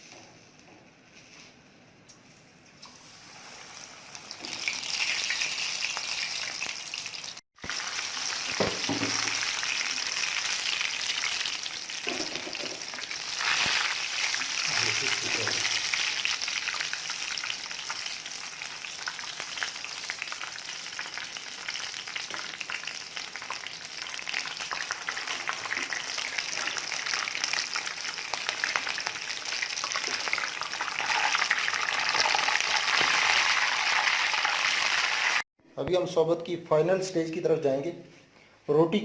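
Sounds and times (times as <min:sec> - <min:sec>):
hot oil sizzling and crackling: 0:02.8 - 0:35.5.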